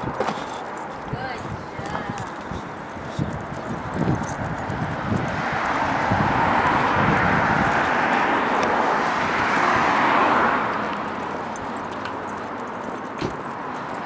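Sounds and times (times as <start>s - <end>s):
car passing: 0.0s - 14.0s.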